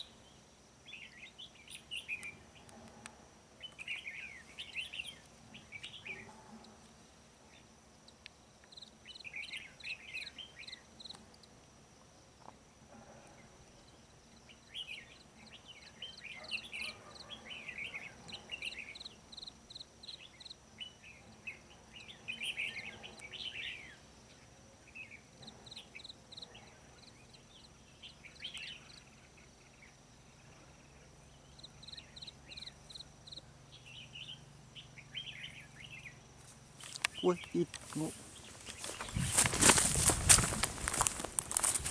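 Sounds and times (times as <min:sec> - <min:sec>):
faint insect drone: 0:00.0 - 0:41.9.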